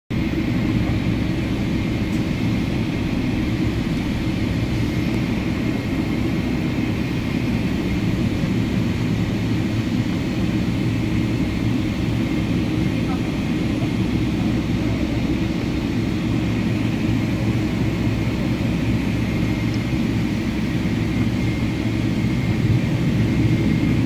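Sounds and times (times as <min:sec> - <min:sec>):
jet engine cabin rumble: 0:00.1 - 0:24.0.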